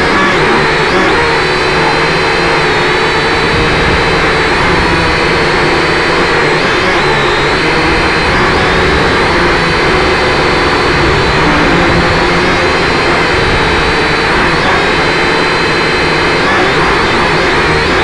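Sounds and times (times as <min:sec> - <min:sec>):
small electric motors whining: 0:00.0 - 0:18.0
loud hiss: 0:00.6 - 0:18.0.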